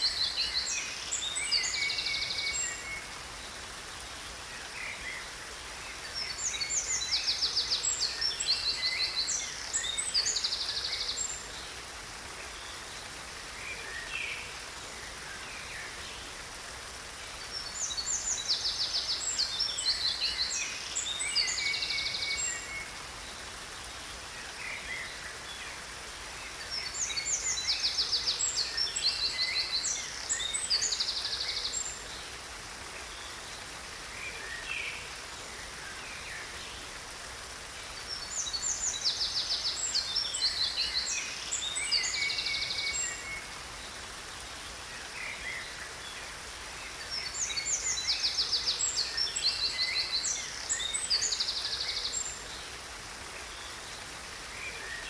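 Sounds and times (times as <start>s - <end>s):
falling water hiss: 0.0s - 55.0s.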